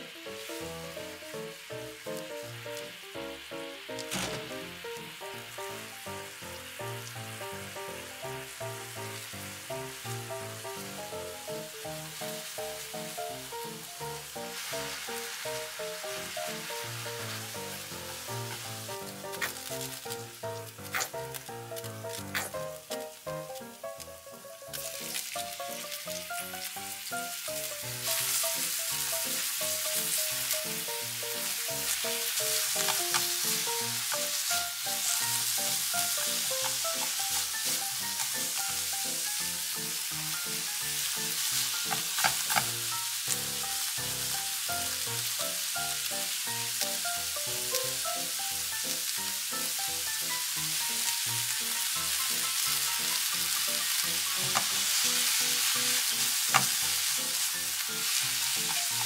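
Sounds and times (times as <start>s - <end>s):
light background music: 0.0s - 59.0s
noodles sizzling in hot oil: 0.0s - 59.0s.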